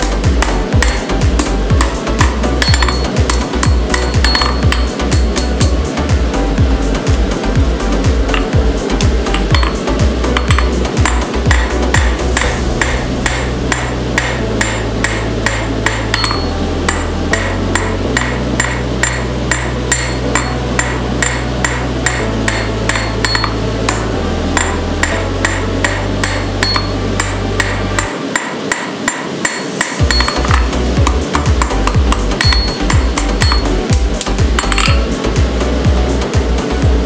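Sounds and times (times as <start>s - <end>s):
hammer striking metal on anvil: 0.0s - 5.8s, 8.3s - 35.1s
background music: 0.0s - 37.0s.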